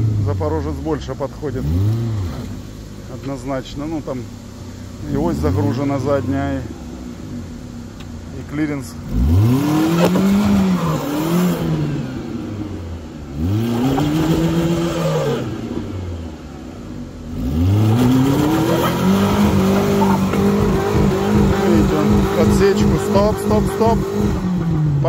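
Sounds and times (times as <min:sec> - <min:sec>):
car engine revving hard: 0:00.0 - 0:03.1, 0:04.0 - 0:08.0, 0:08.8 - 0:25.0.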